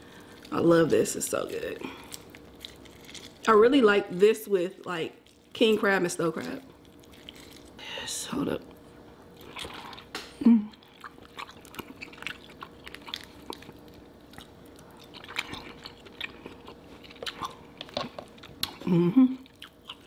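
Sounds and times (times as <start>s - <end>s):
person chewing with wet clicks: 1.3s - 3.5s, 5.2s - 7.8s, 8.6s - 20.0s.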